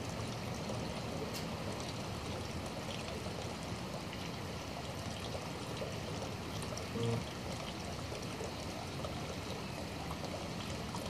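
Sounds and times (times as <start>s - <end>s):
water dripping: 0.0s - 11.0s
water pouring: 0.0s - 11.0s.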